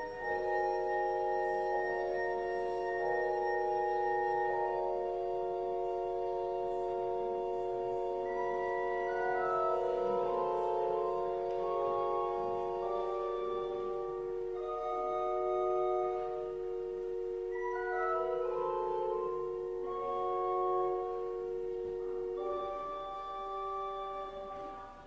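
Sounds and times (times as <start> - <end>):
church organ chords: 0.0 - 25.0.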